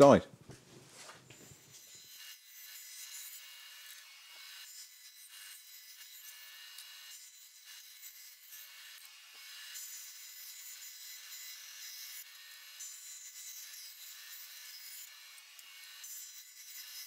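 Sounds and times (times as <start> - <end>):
bandsaw cutting wood: 1.4 - 17.0.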